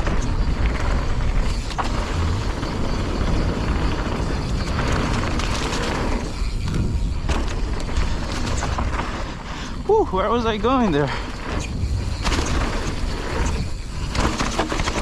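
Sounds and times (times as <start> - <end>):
bike knocks and rattles: 0.0 - 9.4, 10.6 - 15.0
tyre and trail rumble: 0.0 - 15.0
wind buffeting microphone: 0.0 - 15.0.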